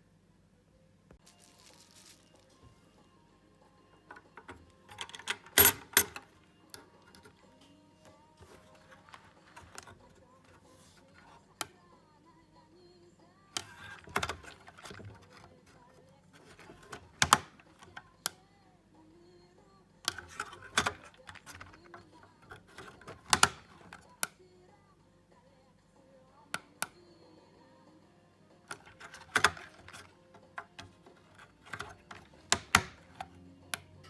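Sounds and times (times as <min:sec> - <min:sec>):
faint background music: 0:00.0 - 0:34.0.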